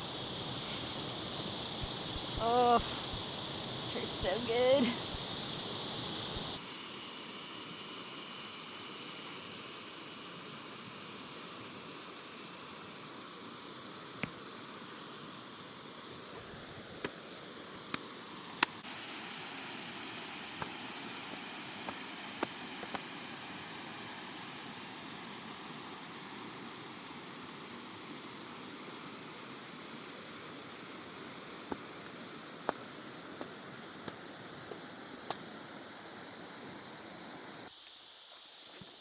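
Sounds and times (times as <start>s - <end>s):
outdoor background hiss: 0.0s - 39.0s.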